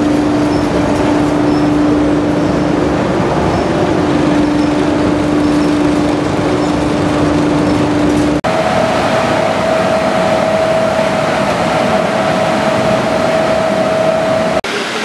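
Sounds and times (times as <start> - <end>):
conveyor line whine: 0.0 - 15.0
low machine hum: 0.0 - 15.0.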